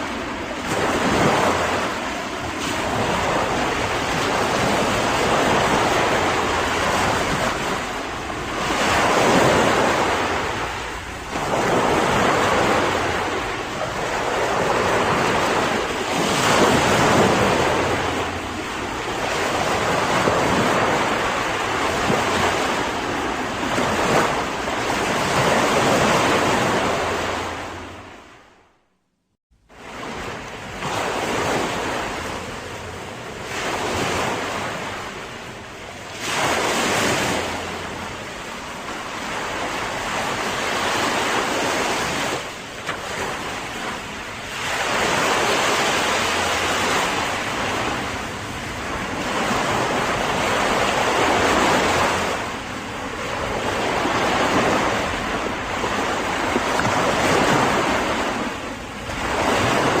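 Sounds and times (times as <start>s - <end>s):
ocean waves breaking: 0.0s - 28.8s, 29.6s - 60.0s.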